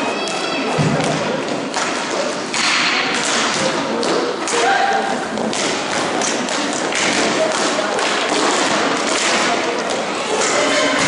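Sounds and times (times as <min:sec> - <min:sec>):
echoing hall background noise: 0:00.0 - 0:11.0
hockey sticks and puck knocking: 0:00.3 - 0:11.0.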